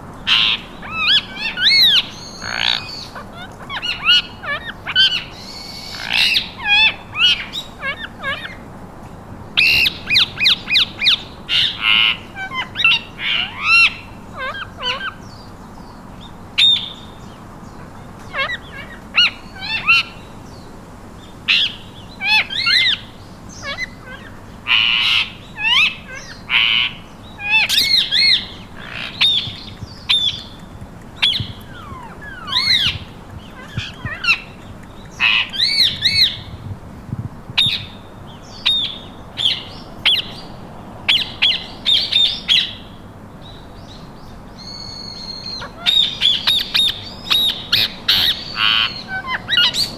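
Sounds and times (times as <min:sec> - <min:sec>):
parakeets squawking and chirping: 0:00.3 - 0:08.6, 0:09.6 - 0:15.4, 0:16.6 - 0:20.3, 0:21.5 - 0:36.7, 0:37.6 - 0:44.0, 0:44.6 - 0:49.9.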